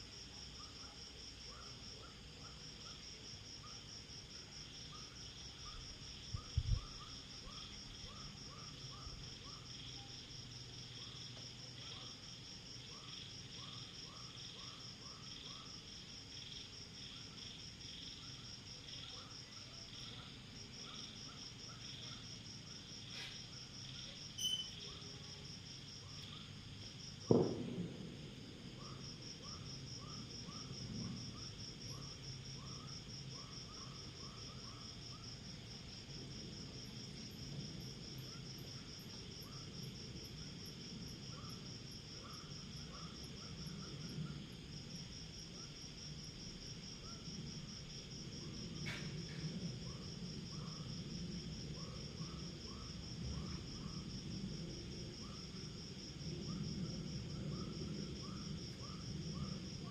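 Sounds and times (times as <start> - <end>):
insect trill: 0.0 - 59.9
low insect chirp: 0.0 - 59.9.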